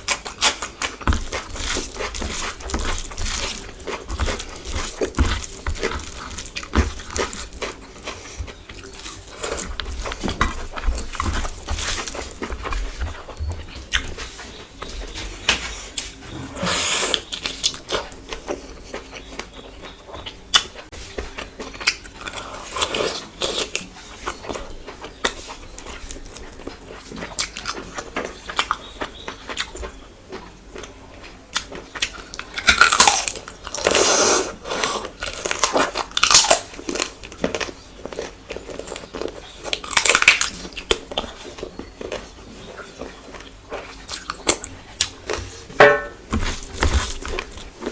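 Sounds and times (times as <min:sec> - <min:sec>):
chewing and mouth smacking: 0:00.0 - 0:16.3, 0:17.0 - 0:45.7.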